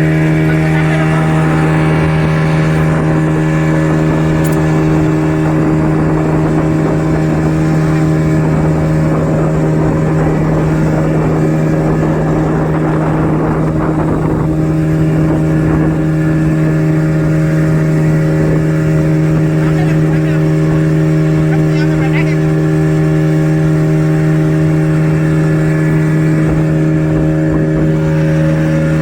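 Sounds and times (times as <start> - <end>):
rushing water noise: 0.0 - 29.0
speedboat engine running: 0.0 - 29.0.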